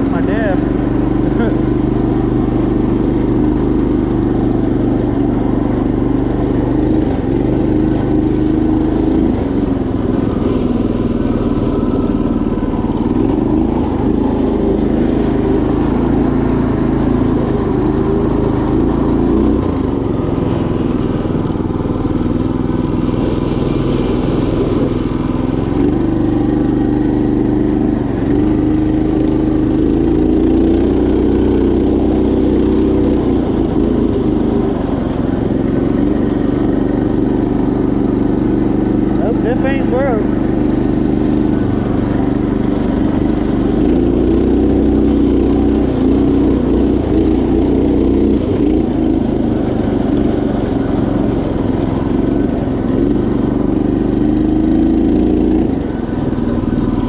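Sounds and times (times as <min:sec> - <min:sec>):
riding mower engine running: 0:00.0 - 0:57.0.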